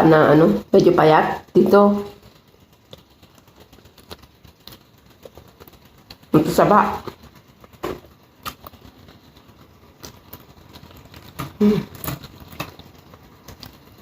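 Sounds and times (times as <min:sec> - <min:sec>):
chewing crunches: 0:02.1 - 0:14.0.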